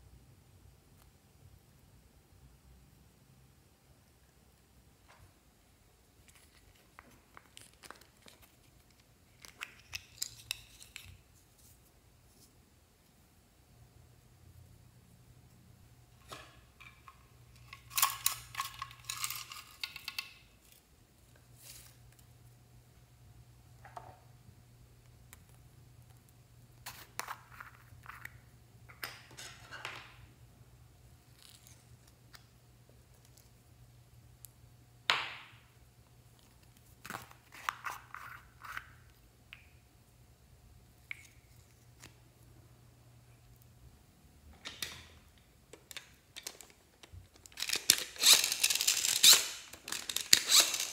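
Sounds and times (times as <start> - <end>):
faint low hum: 0.0 - 48.2.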